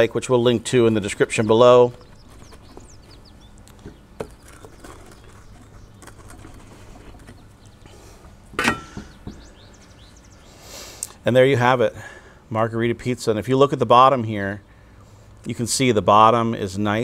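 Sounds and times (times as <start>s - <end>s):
birds chirping faintly: 0.0s - 15.6s.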